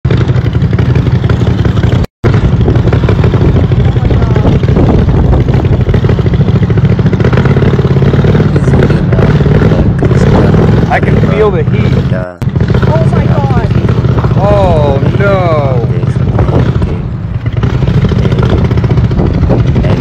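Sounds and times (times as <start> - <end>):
wind buffeting microphone: 2.3 - 20.0.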